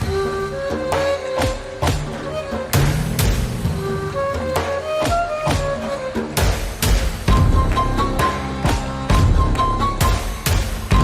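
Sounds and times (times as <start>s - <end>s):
music with percussive beats and bass: 0.0s - 11.0s.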